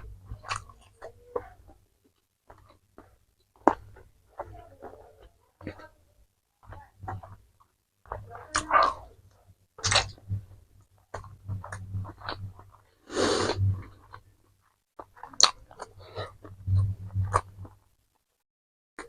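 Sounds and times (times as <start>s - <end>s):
chewing and crunching food: 0.0s - 18.4s.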